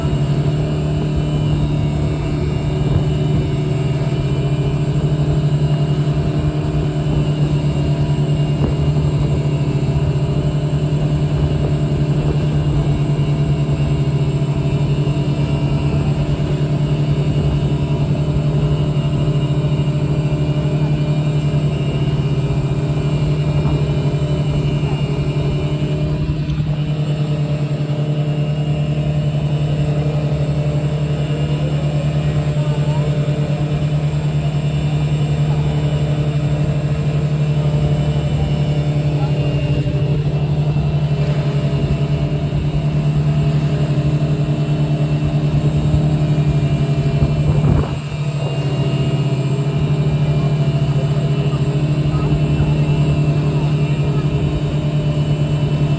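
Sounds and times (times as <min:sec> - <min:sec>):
boat engine droning: 0:00.0 - 0:55.9
wind and water rumbling: 0:00.0 - 0:55.9.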